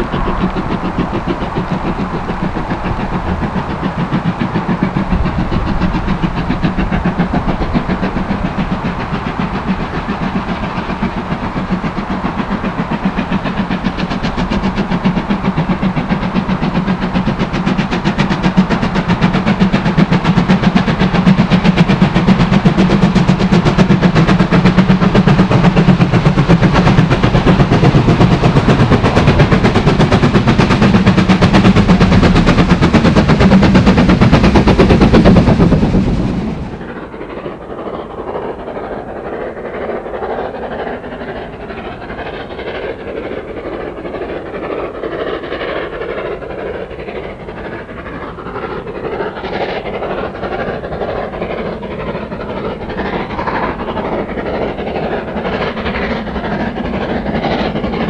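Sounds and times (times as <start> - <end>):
steam locomotive exhaust beats: 0.0 - 58.0.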